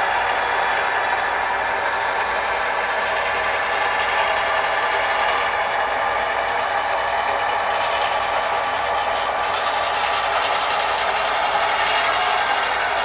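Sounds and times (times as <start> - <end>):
model locomotive diesel engine sound: 0.0 - 13.0.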